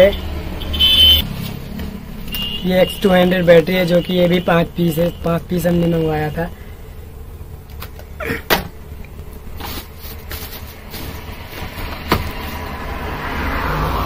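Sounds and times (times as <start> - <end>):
steady low hum: 0.2 - 13.0.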